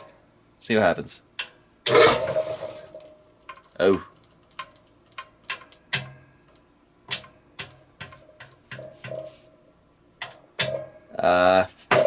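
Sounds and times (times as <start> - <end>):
sharp electrical clicks and knocks: 1.4 - 9.4, 10.2 - 12.0.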